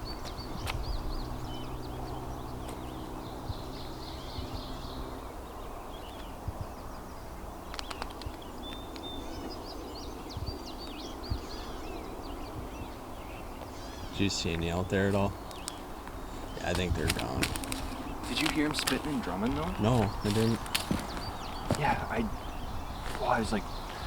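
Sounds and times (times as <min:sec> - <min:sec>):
songbirds chirping and singing: 0:00.0 - 0:24.0.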